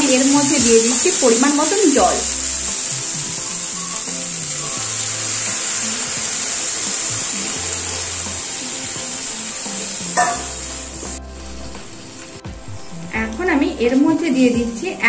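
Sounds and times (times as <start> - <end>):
water hissing in hot pan: 0.0 - 14.2
soft background music: 0.0 - 15.0.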